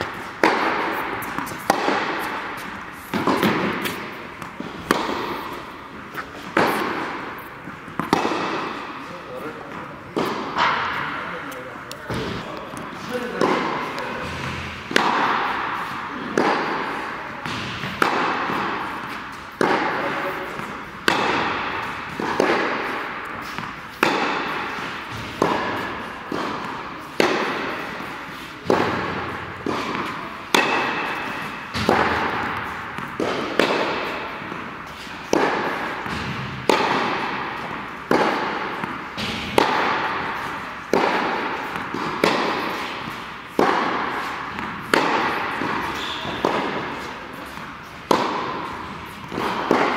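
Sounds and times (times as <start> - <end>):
tennis ball hit by rackets: 0.0 - 49.9.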